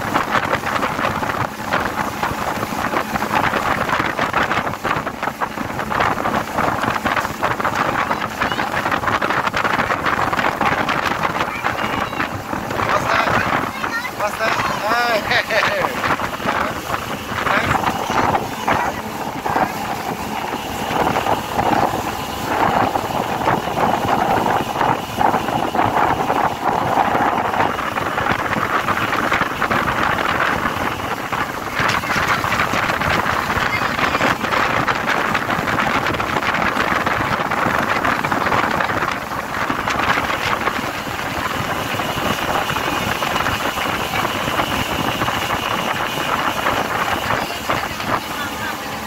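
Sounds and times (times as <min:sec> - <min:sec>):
motorboat engine running: 0:00.0 - 0:49.0
wind buffeting microphone: 0:00.0 - 0:49.0.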